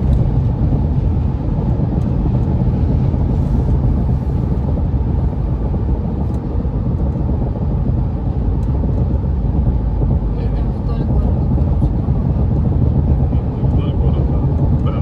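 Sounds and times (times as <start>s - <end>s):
road and tyre rumble in car: 0.0s - 15.0s.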